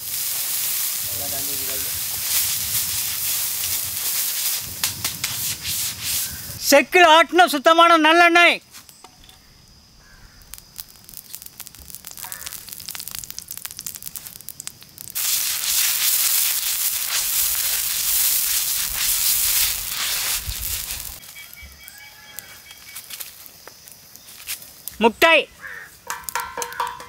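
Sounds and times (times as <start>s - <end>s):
oil crackling and popping: 0.0s - 6.6s, 10.0s - 25.0s, 25.6s - 27.0s
loud steady sizzle: 0.0s - 6.9s, 9.7s - 26.4s.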